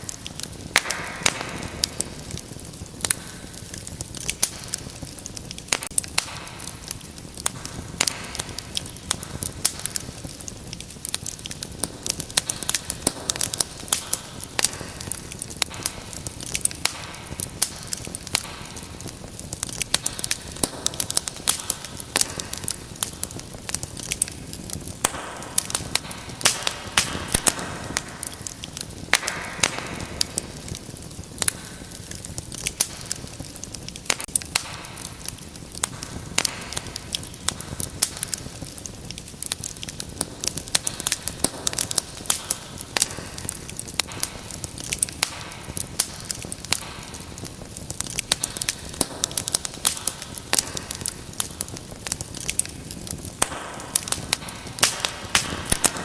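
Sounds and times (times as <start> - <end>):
fire pops and crackles: 0.0 - 56.0.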